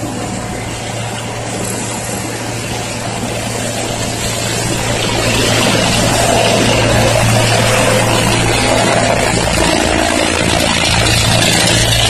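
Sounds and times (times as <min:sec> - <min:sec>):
road roller diesel engine: 0:00.0 - 0:12.0.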